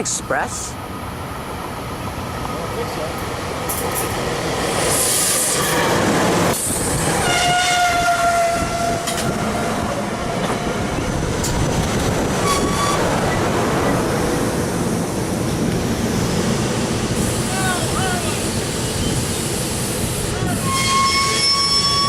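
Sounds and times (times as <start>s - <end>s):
train wheel-on-rail rumble: 0.0s - 22.0s.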